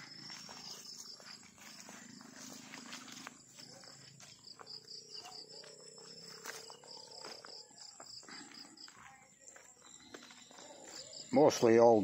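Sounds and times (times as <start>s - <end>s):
faint cricket-like insect trill: 0.0s - 12.0s
soft footsteps on grass: 0.0s - 12.0s.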